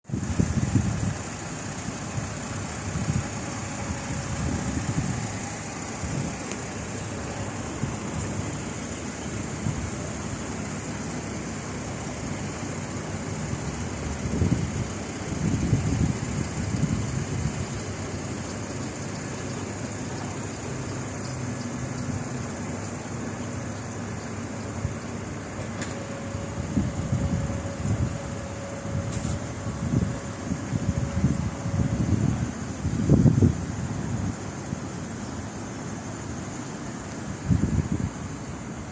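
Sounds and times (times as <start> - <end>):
faint high whine: 0.1 - 38.9.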